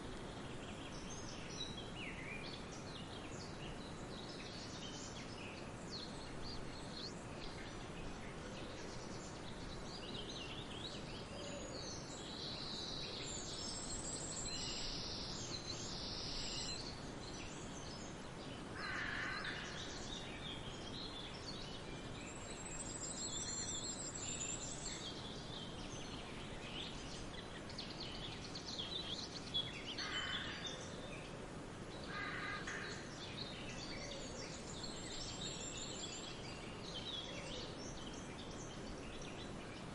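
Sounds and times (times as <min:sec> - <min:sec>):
outdoor background hiss: 0:00.0 - 0:39.9
wild birds chirping and calling: 0:02.6 - 0:21.7, 0:22.3 - 0:39.9.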